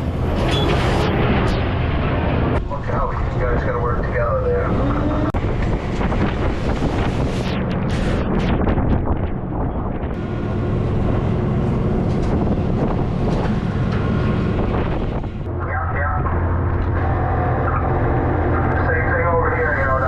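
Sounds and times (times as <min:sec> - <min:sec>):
boat engine running: 0:00.0 - 0:20.0
rushing wind: 0:00.0 - 0:20.0
sea noise: 0:00.0 - 0:20.0.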